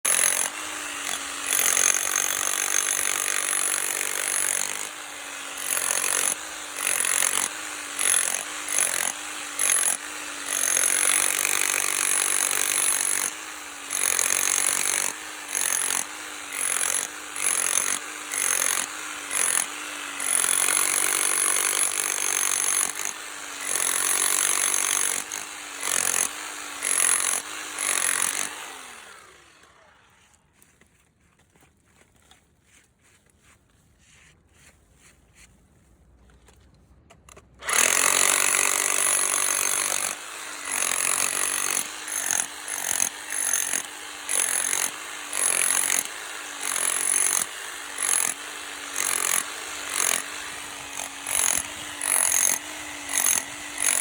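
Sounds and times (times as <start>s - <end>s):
power tool working concrete: 0.0s - 30.2s, 37.6s - 54.0s.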